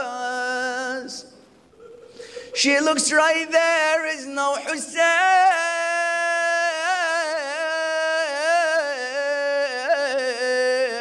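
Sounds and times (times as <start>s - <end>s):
man singing a mournful lament: 0.0s - 1.3s, 2.5s - 11.0s.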